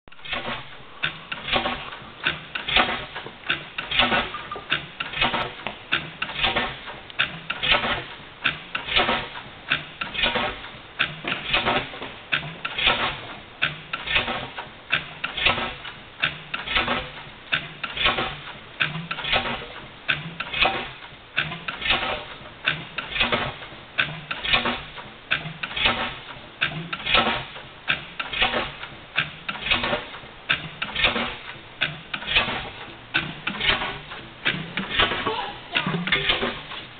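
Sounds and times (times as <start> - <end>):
stationary gas engine clattering: 0.1 - 36.9.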